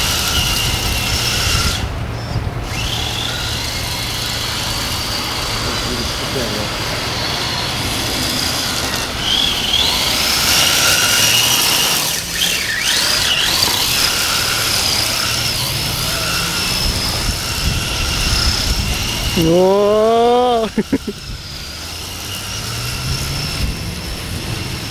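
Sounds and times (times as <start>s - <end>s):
toy car drivetrain whine: 0.0s - 24.9s.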